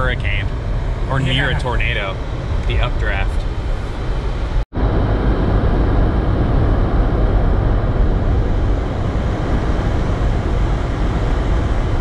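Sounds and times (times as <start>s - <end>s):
wind and road noise in car: 0.0s - 12.0s.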